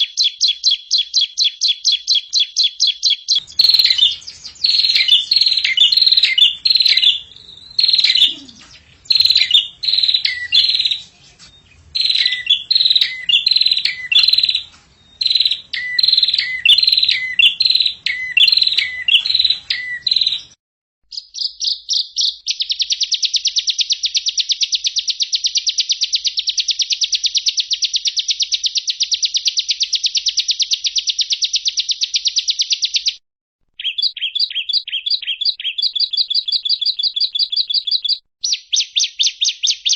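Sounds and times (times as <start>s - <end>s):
recorded bird song: 0.0s - 39.9s.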